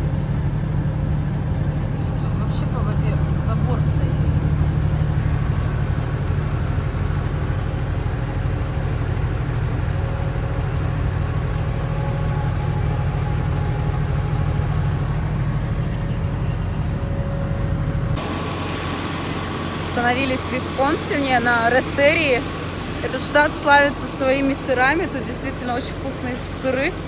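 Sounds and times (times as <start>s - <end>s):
truck engine and road drone: 0.0s - 27.0s.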